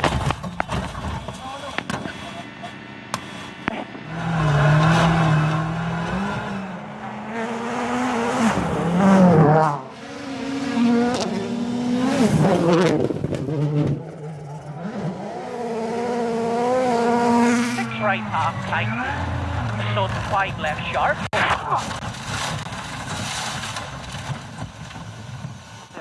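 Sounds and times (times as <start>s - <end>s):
rally car engine revving: 0.0s - 25.1s.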